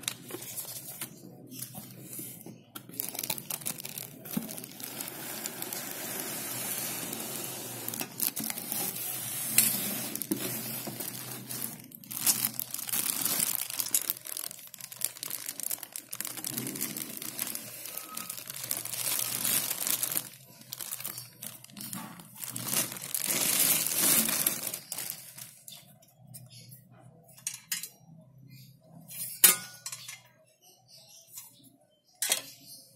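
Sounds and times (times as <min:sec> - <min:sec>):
packaging crinkling and rustling: 0:00.0 - 0:26.6.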